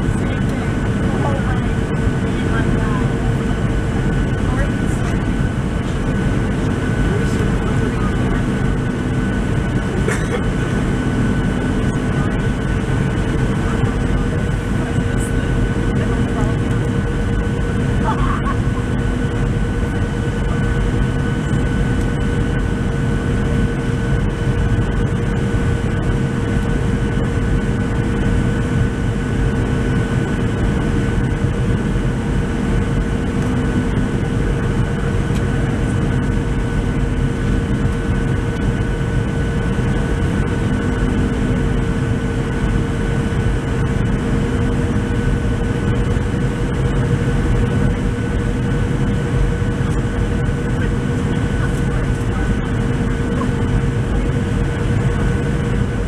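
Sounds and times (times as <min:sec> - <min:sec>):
airflow and jet engine rush: 0:00.0 - 0:56.0
steady whine: 0:00.0 - 0:56.0.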